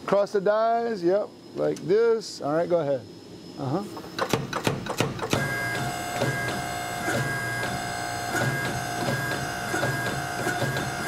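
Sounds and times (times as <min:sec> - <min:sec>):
machine whine: 0:00.0 - 0:11.0.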